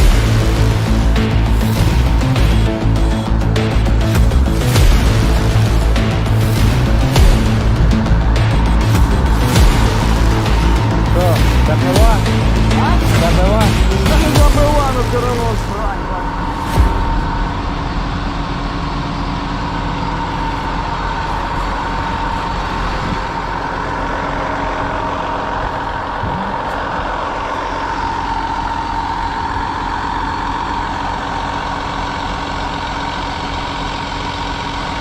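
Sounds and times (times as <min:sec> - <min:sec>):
heavy machinery engine drone: 0:00.0 - 0:35.0
steady high whine: 0:00.0 - 0:35.0.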